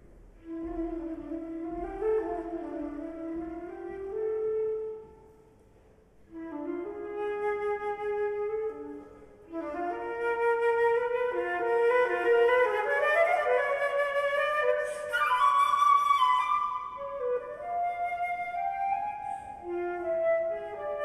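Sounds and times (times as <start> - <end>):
solo flute playing slow phrases: 0.4 - 5.4, 6.3 - 21.0.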